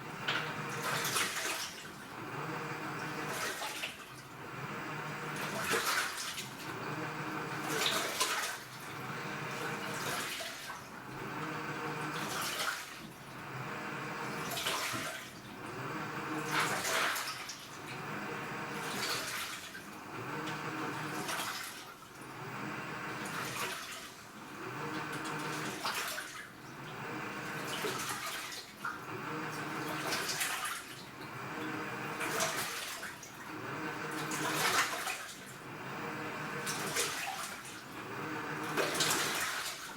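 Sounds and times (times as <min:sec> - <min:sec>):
washing machine motor hum: 0:00.0 - 0:39.9
washing machine water swishing: 0:00.0 - 0:39.9.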